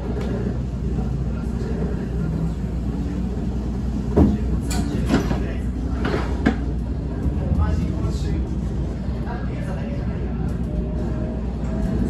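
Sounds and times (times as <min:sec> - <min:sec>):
train interior low rumble: 0:00.0 - 0:12.0.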